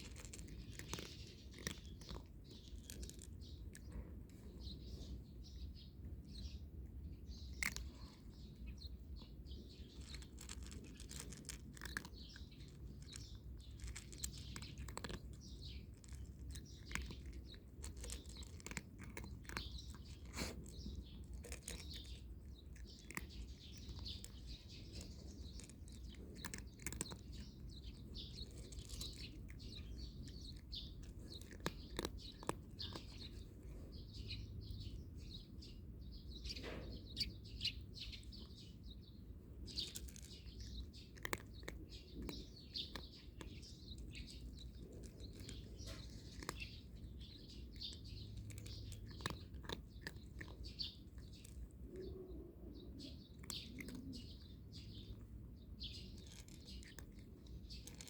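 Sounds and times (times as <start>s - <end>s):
cat crunching dry kibble: 0.0s - 36.0s, 36.7s - 52.2s, 52.9s - 58.0s
small birds chirping: 0.0s - 58.0s.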